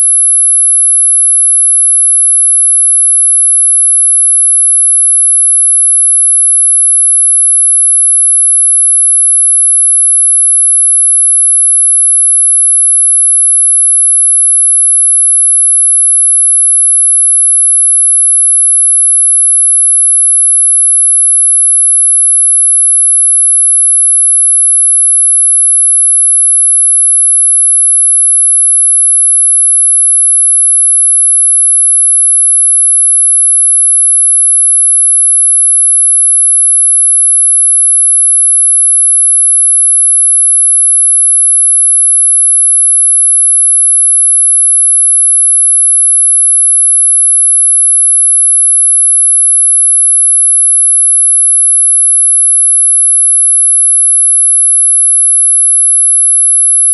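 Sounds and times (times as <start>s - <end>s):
high-pitched sine tone: 0.0s - 56.9s.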